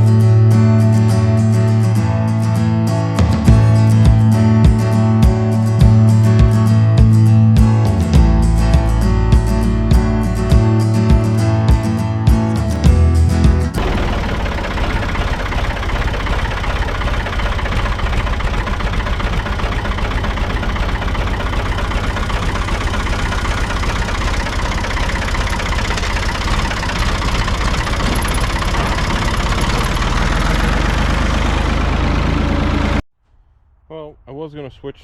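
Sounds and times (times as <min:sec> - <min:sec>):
tractor engine running: 0:02.4 - 0:33.0.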